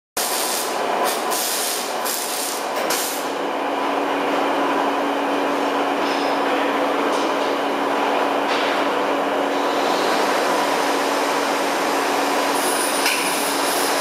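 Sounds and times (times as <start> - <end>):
dense machine noise: 0.2 - 14.0.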